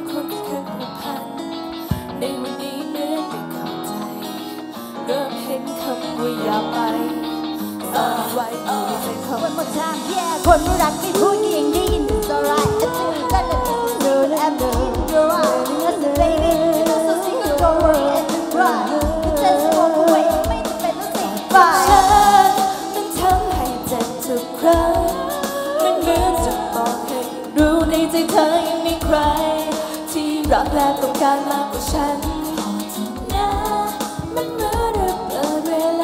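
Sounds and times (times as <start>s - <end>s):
pop music with drum beat: 0.0s - 36.0s
women singing into microphones: 0.0s - 36.0s.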